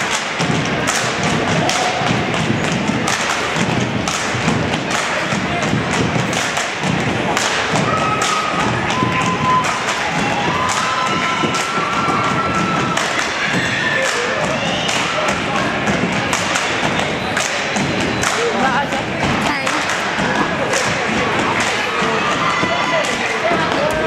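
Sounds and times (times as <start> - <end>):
crowd noise: 0.0 - 24.0
people clapping: 0.0 - 24.0.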